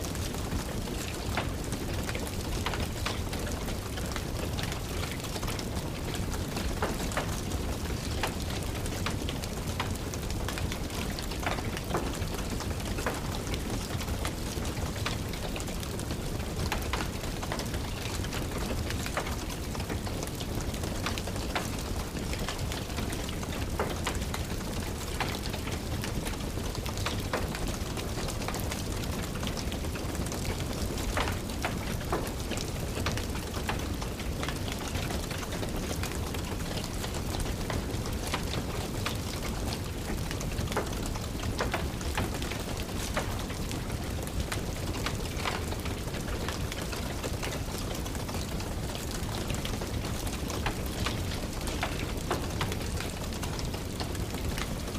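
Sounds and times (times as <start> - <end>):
rain with low rumble: 0.0 - 54.9
wood fire crackling and popping: 0.0 - 54.9.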